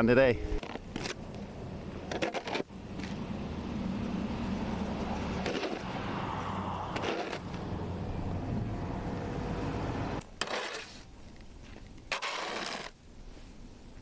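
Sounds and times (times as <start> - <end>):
engine humming: 0.8 - 14.0.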